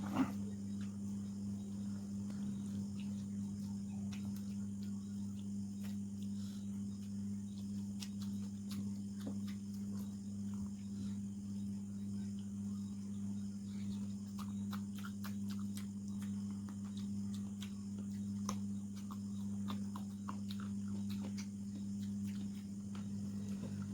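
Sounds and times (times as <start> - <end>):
low electrical hum: 0.0 - 23.9
person chewing food: 0.0 - 23.9.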